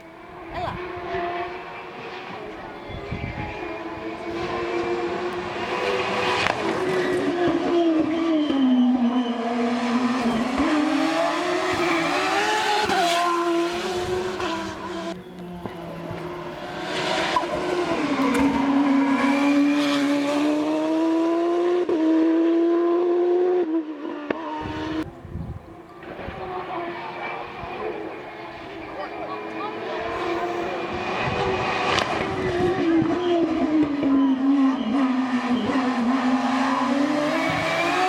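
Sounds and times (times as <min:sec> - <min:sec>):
race car engine at full throttle: 0:00.0 - 0:38.0.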